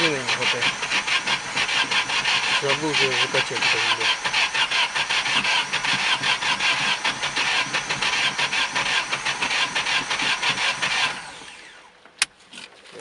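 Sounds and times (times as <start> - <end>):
starter motor cranking engine: 0.0 - 11.9.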